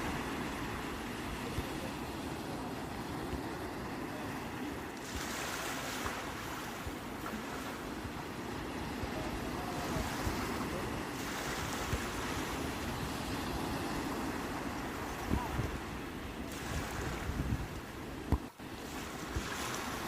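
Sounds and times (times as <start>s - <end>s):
sea waves washing onto shore: 0.0s - 20.0s
wind rumble on microphone: 0.0s - 20.0s.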